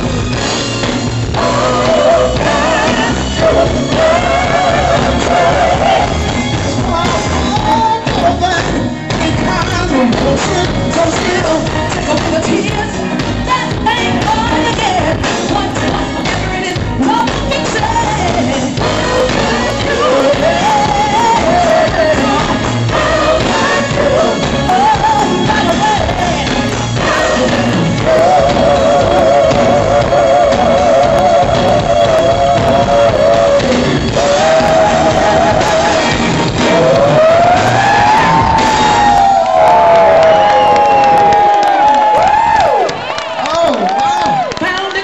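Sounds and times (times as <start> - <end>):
soul band playing: 0.0 - 45.0
man and woman singing: 1.4 - 38.4.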